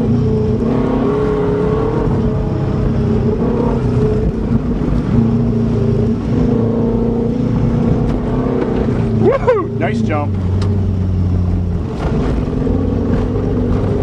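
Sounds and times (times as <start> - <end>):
car engine running: 0.0 - 14.0
tyre and road noise: 0.0 - 14.0.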